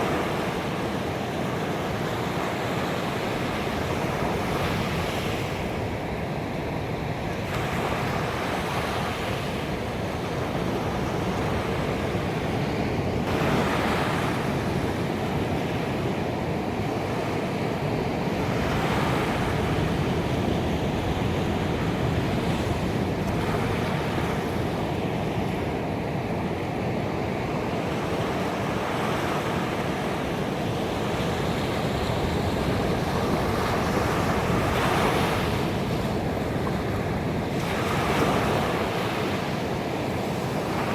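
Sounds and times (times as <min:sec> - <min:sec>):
ocean waves breaking on a beach: 0:00.0 - 0:40.9.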